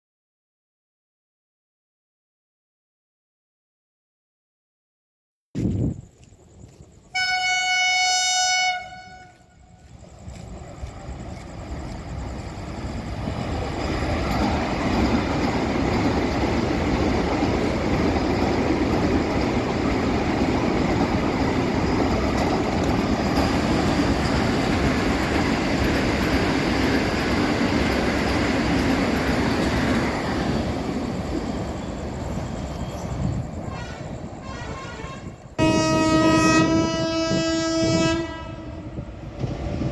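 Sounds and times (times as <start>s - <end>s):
train rumbling past: 5.6s - 39.9s.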